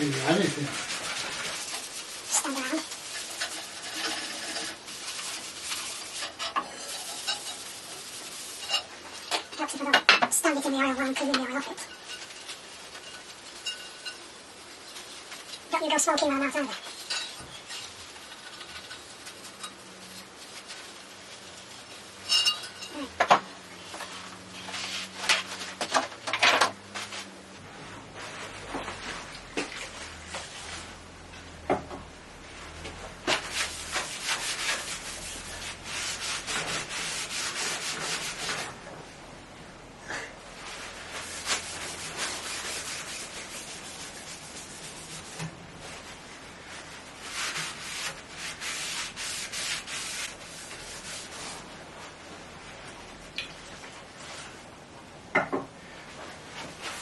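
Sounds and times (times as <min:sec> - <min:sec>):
paper scrubbing on cast iron: 0:00.0 - 0:23.2, 0:23.8 - 0:26.2, 0:28.0 - 0:31.2, 0:32.5 - 0:38.8, 0:40.6 - 0:53.3, 0:56.5 - 0:57.0.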